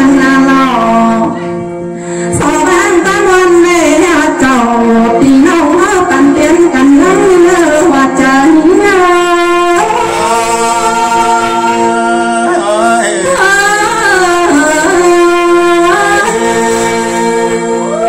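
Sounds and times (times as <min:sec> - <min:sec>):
woman singing into a microphone: 0:00.0 - 0:18.0.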